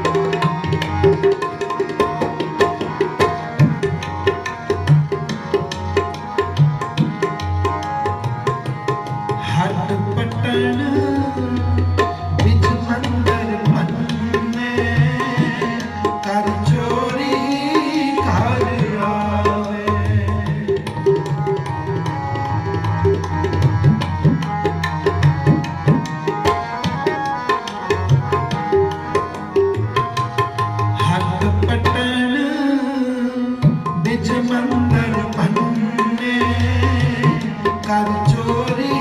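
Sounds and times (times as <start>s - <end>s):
harmonium melody: 0.0s - 39.0s
tabla rhythm: 0.0s - 39.0s.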